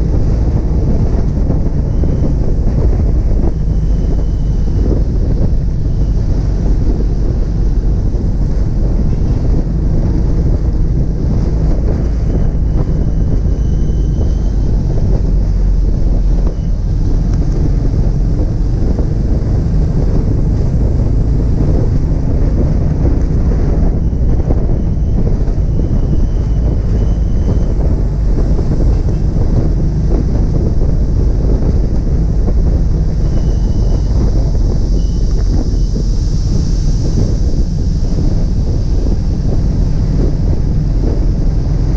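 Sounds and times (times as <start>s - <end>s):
vehicle driving rumble: 0.0s - 41.9s
wind buffeting microphone: 0.0s - 41.9s.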